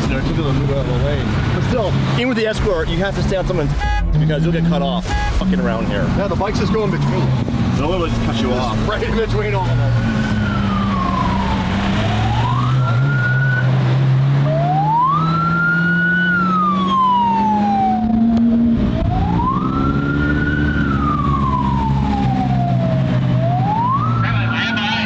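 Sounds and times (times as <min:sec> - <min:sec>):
car engine hum: 0:00.0 - 0:25.0
police siren wailing: 0:03.6 - 0:25.0.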